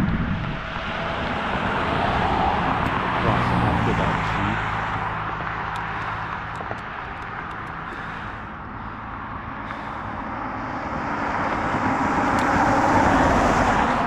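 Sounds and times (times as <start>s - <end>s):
car tyre and engine noise: 0.0s - 14.0s.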